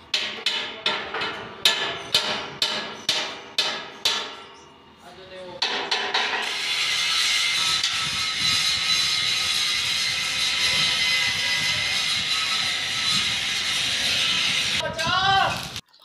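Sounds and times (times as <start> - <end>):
hammer striking steel frame: 0.0 - 4.7, 5.6 - 14.8.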